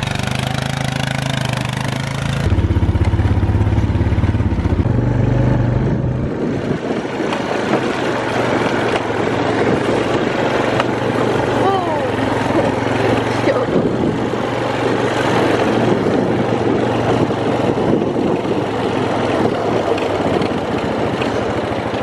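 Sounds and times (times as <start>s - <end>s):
tyres on gravel: 0.0s - 3.8s, 6.4s - 22.0s
atv engine running: 0.0s - 22.0s.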